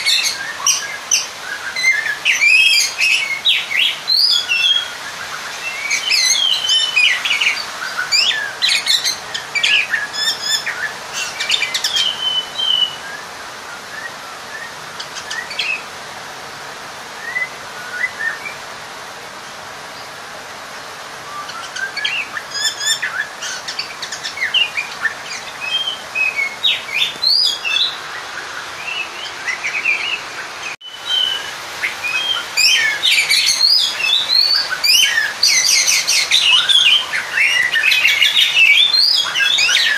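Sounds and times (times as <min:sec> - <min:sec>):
magpie-robin singing: 0:00.0 - 0:13.2, 0:14.0 - 0:15.8, 0:21.3 - 0:39.9.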